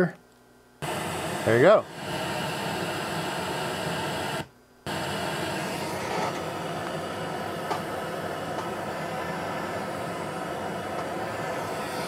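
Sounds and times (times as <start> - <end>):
white noise hiss: 0.0 - 12.0.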